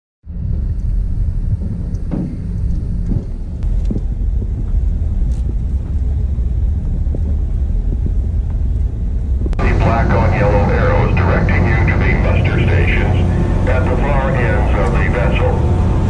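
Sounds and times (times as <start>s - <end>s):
car rolling slowly rumble: 0.3s - 16.0s.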